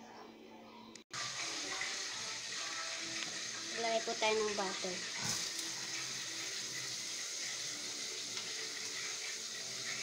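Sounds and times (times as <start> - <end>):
butter sizzling in a wok: 1.2 - 10.0.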